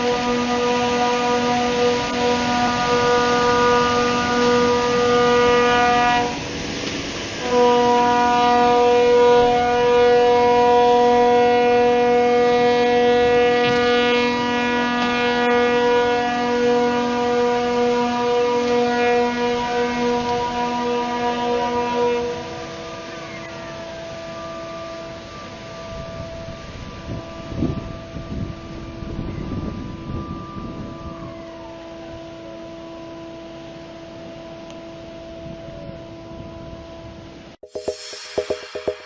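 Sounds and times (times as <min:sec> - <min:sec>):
ship's horn blasts: 0:00.0 - 0:37.5.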